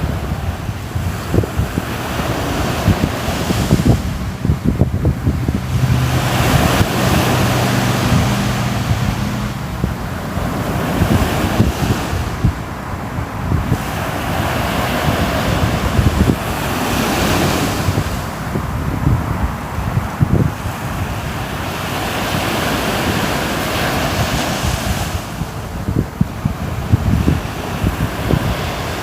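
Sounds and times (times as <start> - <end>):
sea waves washing onto shore: 0.0 - 29.0
wind rumble on microphone: 0.0 - 29.0.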